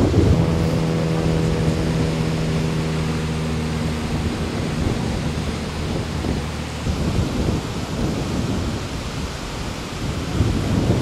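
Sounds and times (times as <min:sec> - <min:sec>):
steady motor hum: 0:00.0 - 0:11.0
surf breaking on a beach: 0:00.0 - 0:11.0
wind rumbling on microphone: 0:00.0 - 0:11.0.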